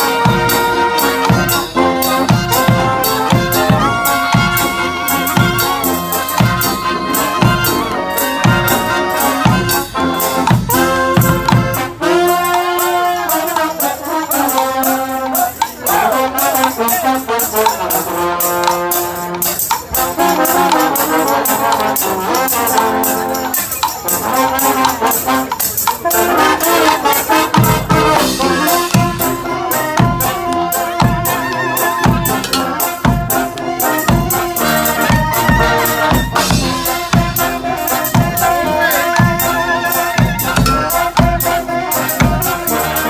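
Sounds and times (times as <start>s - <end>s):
brass band playing: 0.0s - 43.0s
drums beating: 0.0s - 43.0s.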